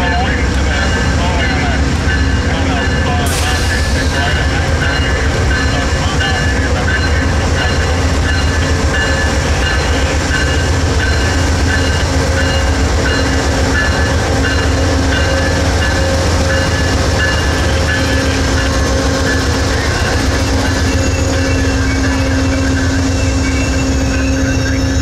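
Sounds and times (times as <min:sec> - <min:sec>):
train low rumble: 0:00.0 - 0:25.0.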